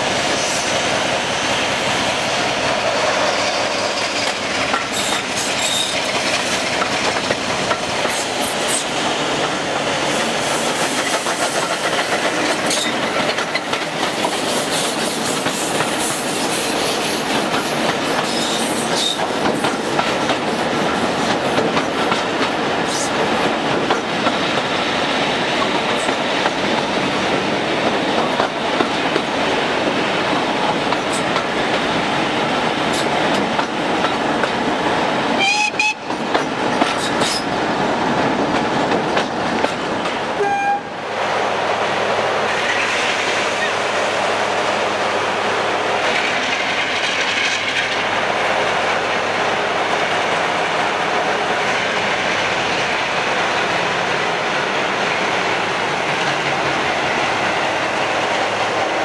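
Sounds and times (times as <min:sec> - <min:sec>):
train wheels clattering on rails: 0:00.0 - 0:40.4, 0:45.8 - 0:59.0.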